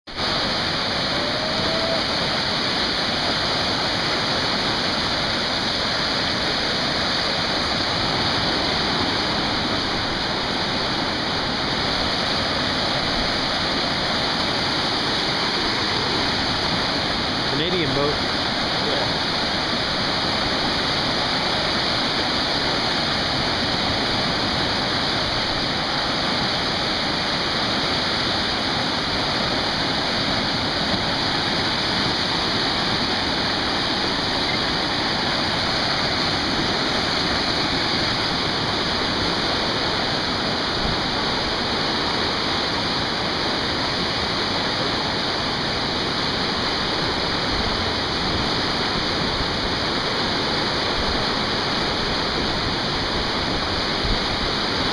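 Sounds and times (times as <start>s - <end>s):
whitewater rapids roaring: 0.1s - 54.9s.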